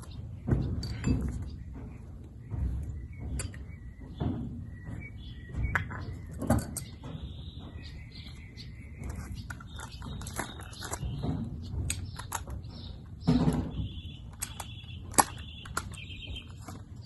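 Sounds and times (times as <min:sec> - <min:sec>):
hand tools clunking and clinking: 0:00.0 - 0:17.0.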